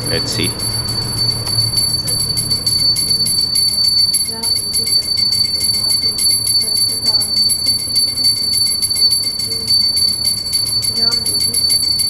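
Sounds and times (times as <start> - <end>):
hand bell rung rapidly: 0.0 - 12.0.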